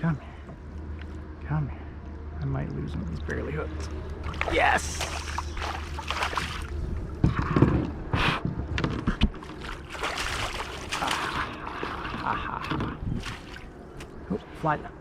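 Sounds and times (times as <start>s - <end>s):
water splashing and sloshing: 2.5s - 14.8s.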